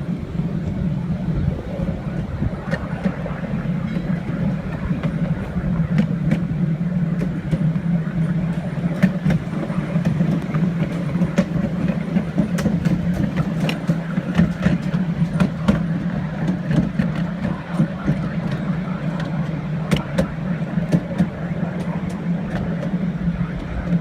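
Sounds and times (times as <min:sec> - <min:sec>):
train running low drone: 0:00.0 - 0:24.0
train clicks and knocks: 0:02.0 - 0:24.0.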